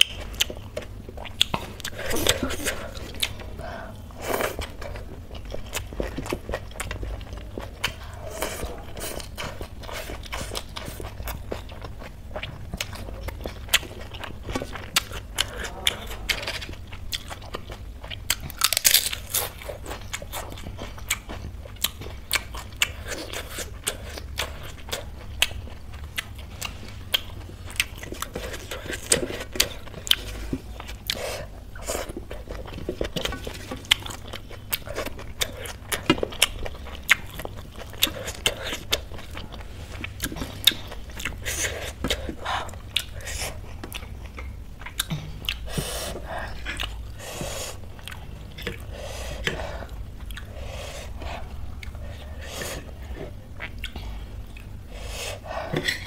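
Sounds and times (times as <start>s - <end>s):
person chewing with crunches: 0.0s - 56.0s.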